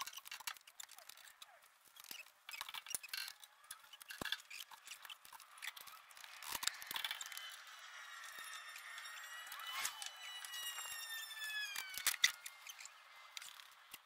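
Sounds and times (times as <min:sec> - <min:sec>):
faint squeaks: 0:00.0 - 0:14.0.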